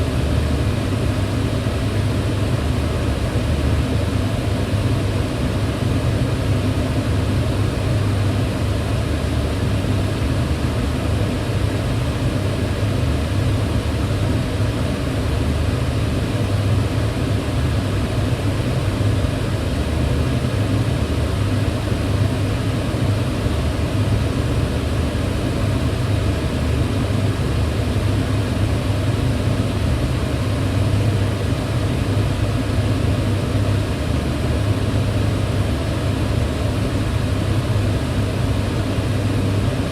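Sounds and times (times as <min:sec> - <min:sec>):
range hood fan rushing: 0:00.0 - 0:39.9.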